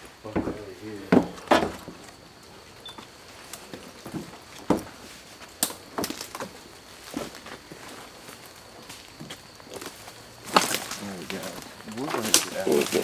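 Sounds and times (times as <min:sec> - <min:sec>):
footsteps through brush: 0:00.0 - 0:13.0.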